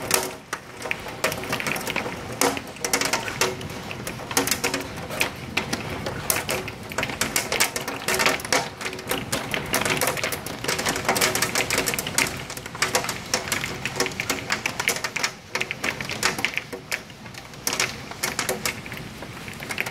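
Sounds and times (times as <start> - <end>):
hail and rain pelting surfaces: 0.0 - 19.9.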